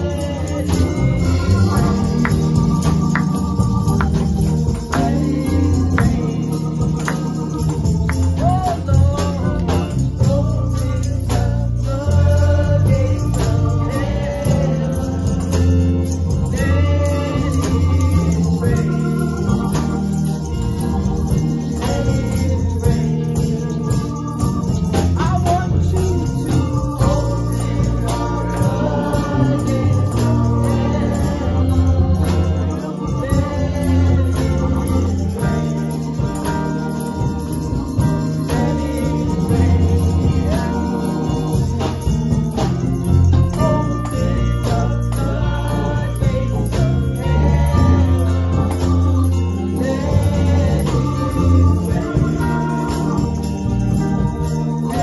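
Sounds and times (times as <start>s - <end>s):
congregation singing: 0.0s - 55.0s
live band with heavy bass: 0.0s - 55.0s.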